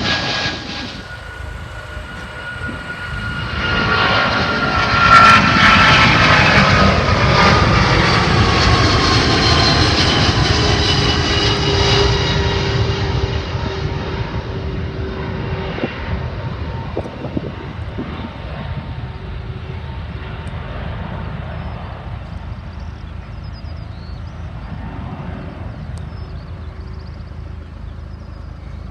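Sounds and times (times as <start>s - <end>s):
airliner engines passing: 0.0s - 28.9s.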